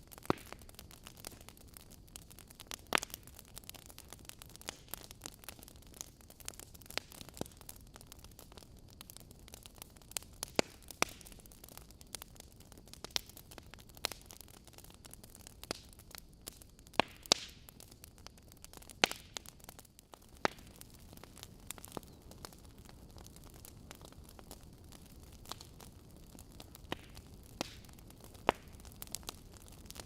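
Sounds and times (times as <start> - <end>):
fire crackling and popping: 0.0 - 30.0
soft hiss of fire: 0.0 - 30.0.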